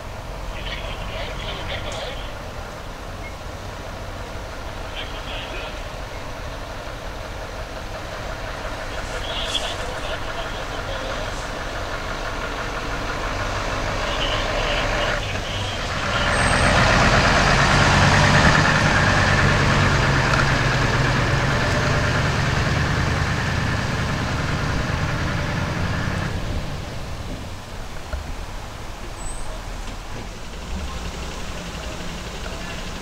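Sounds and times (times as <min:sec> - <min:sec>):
fire engine driving past: 0:00.0 - 0:33.0.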